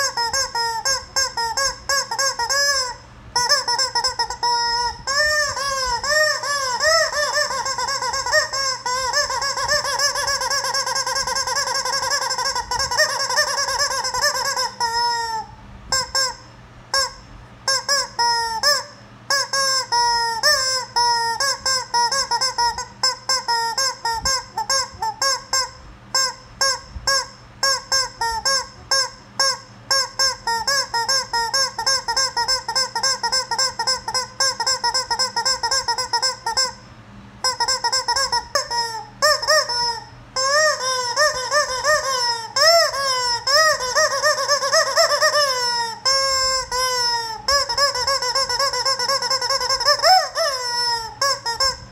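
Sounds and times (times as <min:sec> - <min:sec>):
rubber chicken toy squawking: 0:00.0 - 0:51.9.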